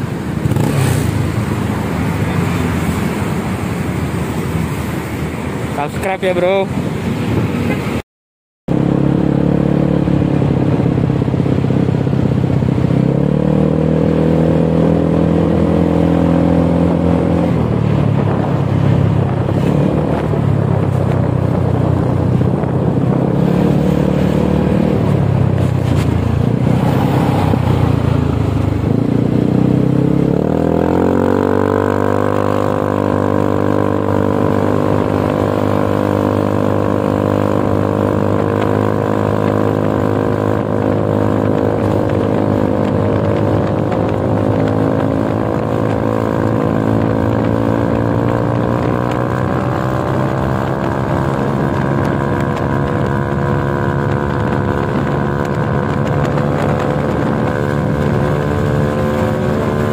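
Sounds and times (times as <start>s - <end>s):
scooter engine revving: 0.0s - 3.6s, 8.7s - 59.9s.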